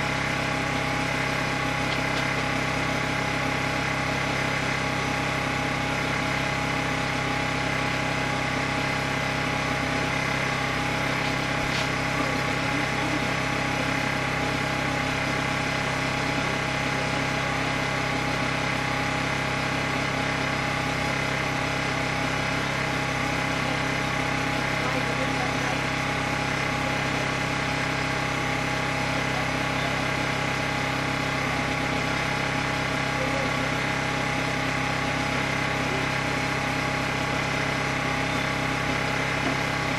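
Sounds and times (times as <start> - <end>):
engine idling hum: 0.0 - 39.9.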